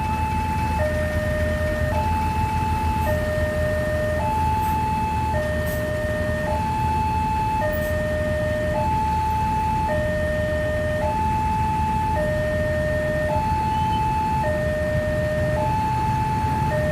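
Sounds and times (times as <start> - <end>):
traffic rumble: 0.0 - 16.9
two-tone level crossing alarm: 0.0 - 16.9.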